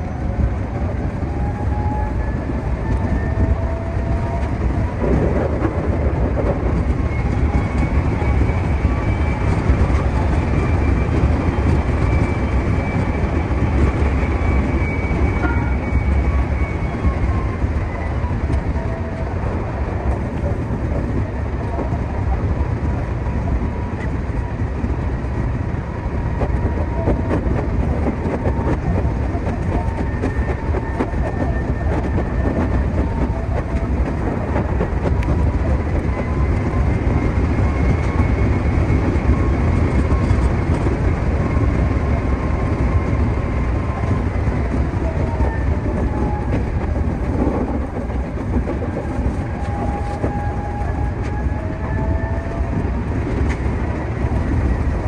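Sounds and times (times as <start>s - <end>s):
faint whining tones: 0.0s - 55.0s
train wheels rumbling on rails: 0.0s - 55.0s.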